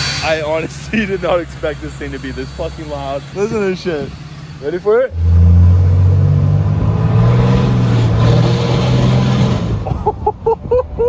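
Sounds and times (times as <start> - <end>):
diesel engine revving: 0.0 - 10.2.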